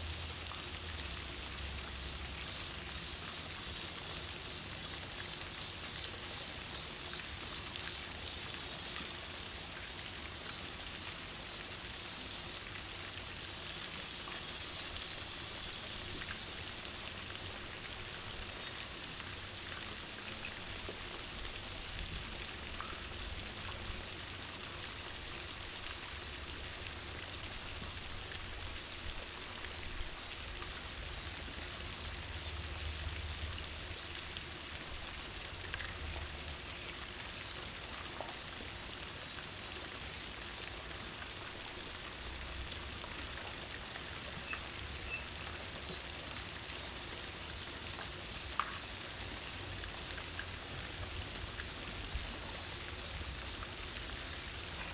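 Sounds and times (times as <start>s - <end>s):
outdoor hiss: 0.0s - 54.9s.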